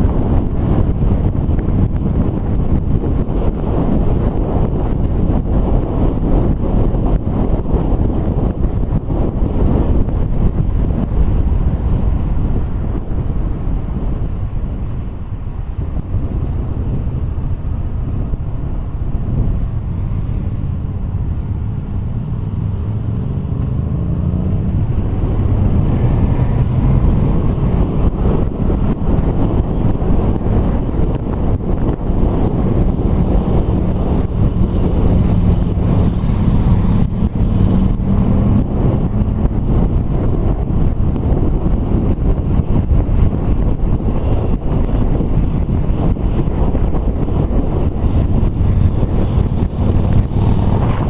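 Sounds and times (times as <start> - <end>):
motorcycle engine running: 0.0 - 51.0
wind rush on microphone: 0.0 - 51.0.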